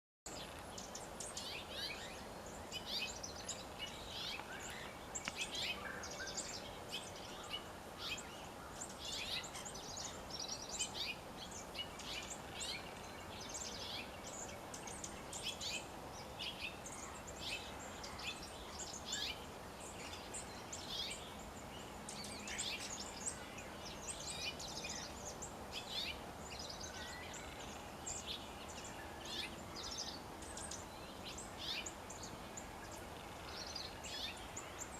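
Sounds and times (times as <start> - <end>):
birds chirping and calling: 0.3 - 34.9
outdoor background hiss: 0.3 - 34.9.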